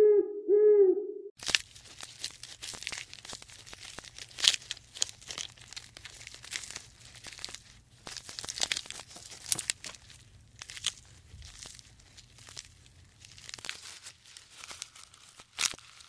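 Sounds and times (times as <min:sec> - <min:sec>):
twigs and leaves snapping: 0:01.4 - 0:16.0.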